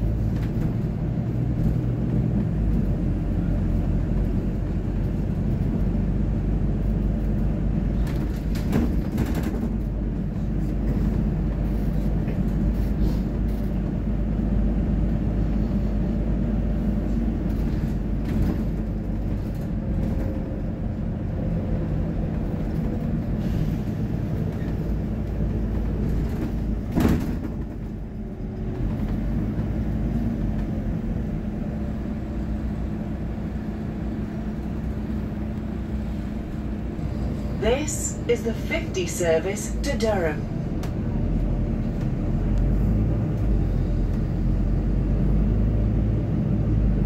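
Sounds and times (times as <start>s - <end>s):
constant hum: 0.0s - 45.3s
bus engine and road rumble: 0.0s - 47.0s.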